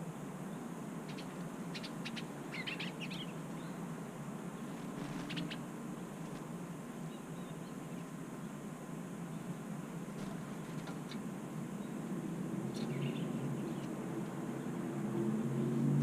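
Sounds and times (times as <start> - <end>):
songbirds chirping: 0.0 - 16.0
steady low hum: 0.0 - 16.0.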